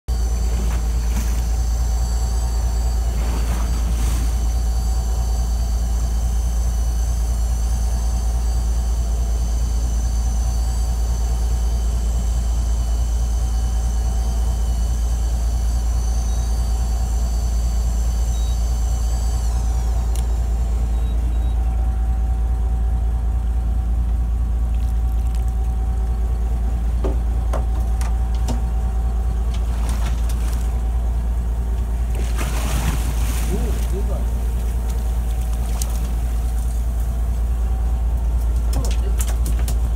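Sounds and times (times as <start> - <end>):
boat engine droning: 0.0 - 39.9
high whine gliding down: 0.1 - 39.4.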